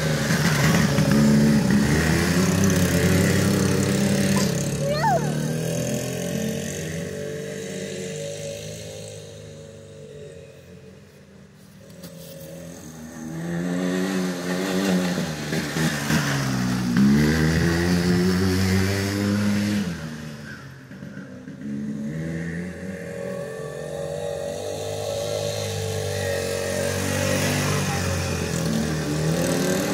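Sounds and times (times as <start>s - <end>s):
atv engine running: 0.0s - 10.9s, 12.4s - 29.9s.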